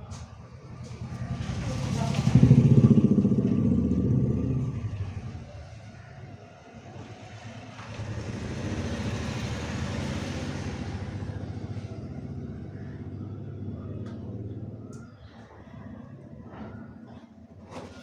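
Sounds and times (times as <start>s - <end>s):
vehicle engine passing by: 0.6s - 15.1s.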